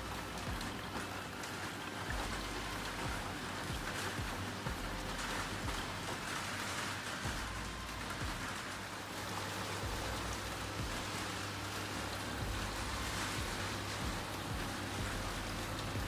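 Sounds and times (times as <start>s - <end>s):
washing machine motor hum: 0.0s - 16.0s
water and laundry sloshing: 0.0s - 16.0s.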